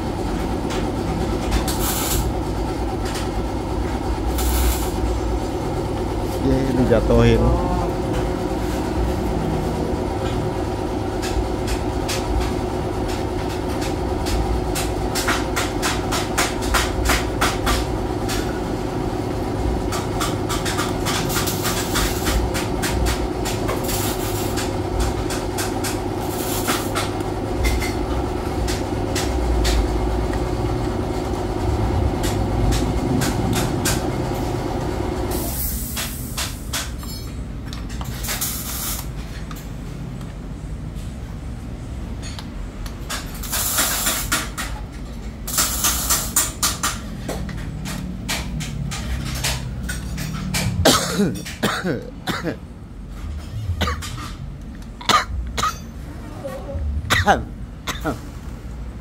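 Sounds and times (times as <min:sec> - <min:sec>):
workshop machinery humming: 0:00.0 - 0:59.0.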